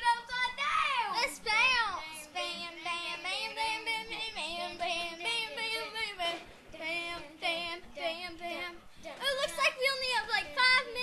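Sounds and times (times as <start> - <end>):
child singing: 0.0 - 11.0.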